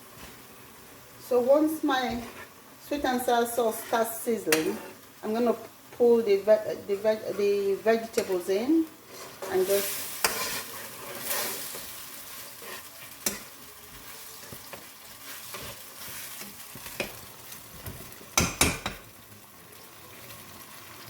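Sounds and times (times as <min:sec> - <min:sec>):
sauce sizzling in a wok: 0:00.0 - 0:21.0.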